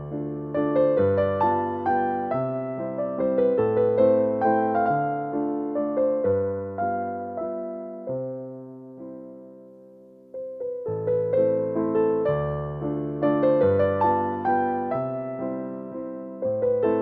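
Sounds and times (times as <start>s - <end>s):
gentle solo piano: 0.0s - 17.0s.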